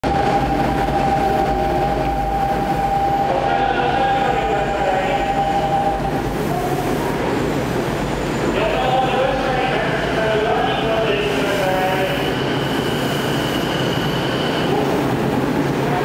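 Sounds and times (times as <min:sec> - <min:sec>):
steady high train tone: 0:00.0 - 0:16.0.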